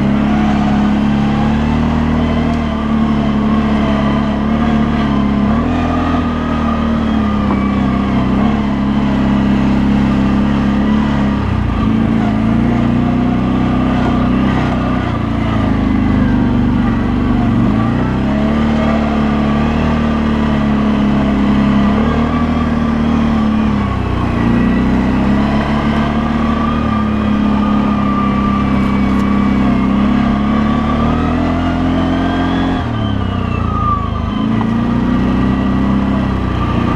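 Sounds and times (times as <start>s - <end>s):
engine revving under load: 0.0s - 36.9s.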